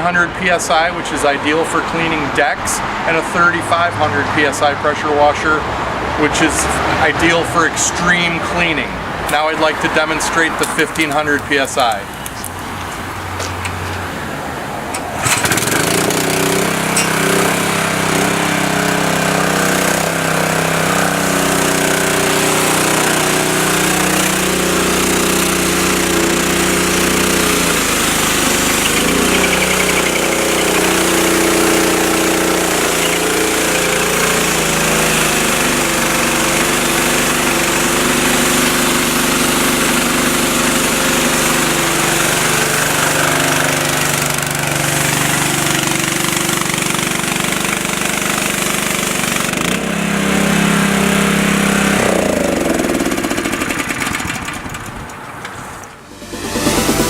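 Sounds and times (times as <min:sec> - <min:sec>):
pressure washer engine running: 0:06.2 - 0:13.8, 0:14.6 - 0:55.3, 0:56.0 - 0:57.0.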